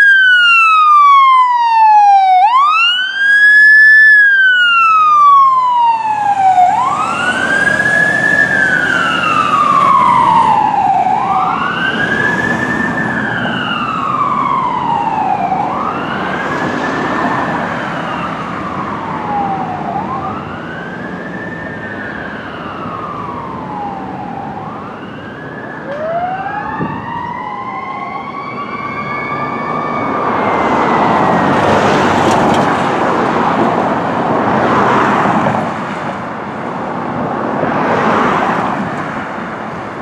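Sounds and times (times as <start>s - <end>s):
fire engine siren wailing: 0.0s - 40.0s
truck engine and road noise: 0.0s - 40.0s.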